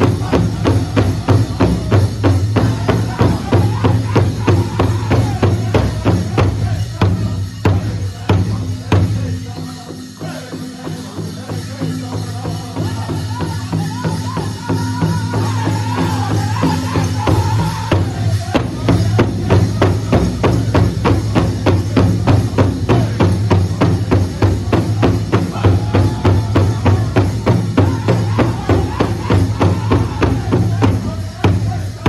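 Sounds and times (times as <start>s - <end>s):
big drum steady beat: 0.0s - 32.0s
men singing in unison: 0.0s - 32.0s.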